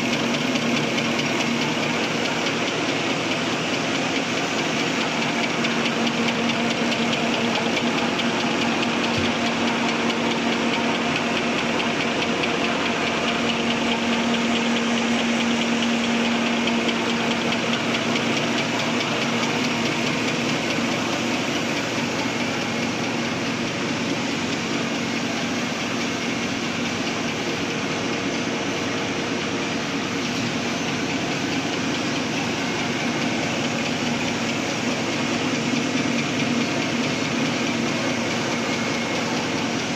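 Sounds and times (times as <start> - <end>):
machine clatter and whir: 0.0 - 39.9
steady machine hum: 0.0 - 39.9.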